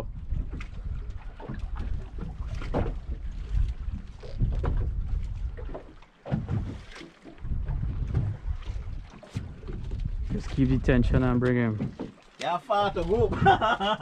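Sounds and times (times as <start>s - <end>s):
wind rumbling on microphone: 0.0s - 11.8s, 12.9s - 14.0s.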